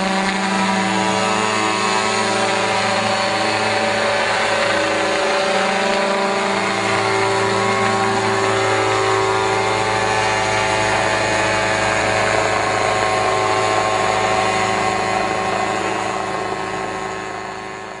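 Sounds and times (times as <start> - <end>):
helicopter engine and rotor droning: 0.0 - 18.0.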